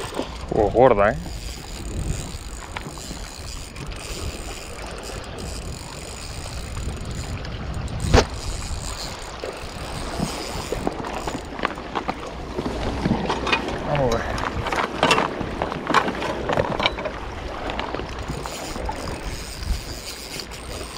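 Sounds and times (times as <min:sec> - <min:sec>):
water lapping against rocks: 0:00.0 - 0:20.9
wind buffeting microphone: 0:00.0 - 0:20.9.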